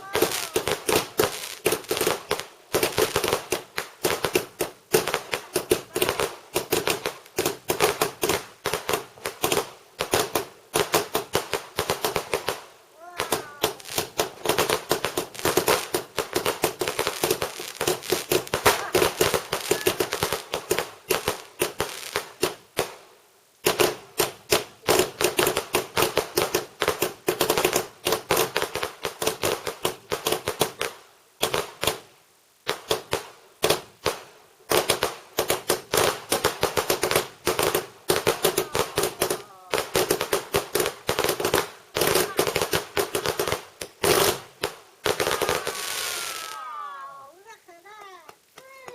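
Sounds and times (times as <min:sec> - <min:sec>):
fireworks crackling bangs: 0:00.0 - 0:48.9.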